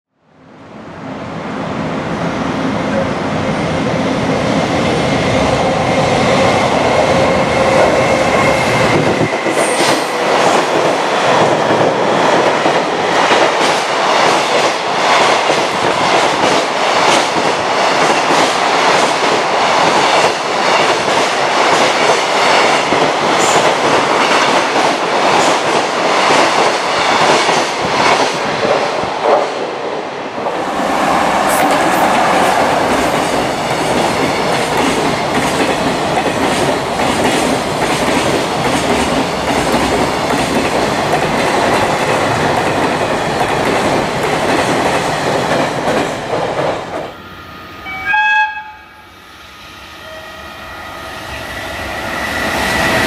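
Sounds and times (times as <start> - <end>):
freight train passing: 0.3 - 53.0.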